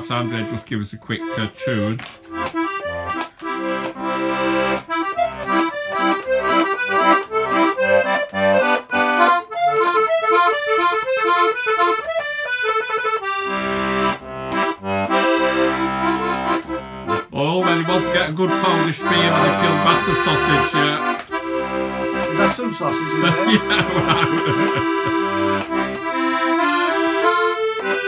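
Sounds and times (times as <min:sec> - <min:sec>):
accordion playing lively tune: 0:00.0 - 0:28.0.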